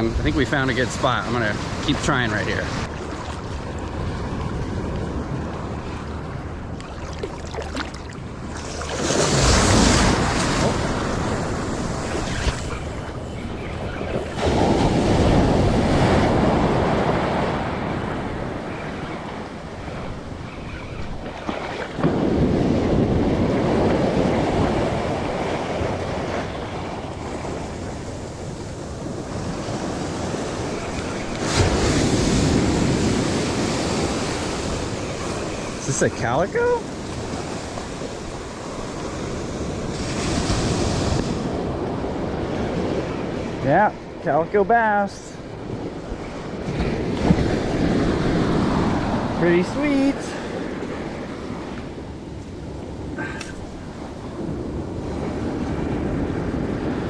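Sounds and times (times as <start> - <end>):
ocean surf washing: 0.0 - 57.0
wave splashing: 0.0 - 57.0
wind buffeting microphone: 0.0 - 57.0.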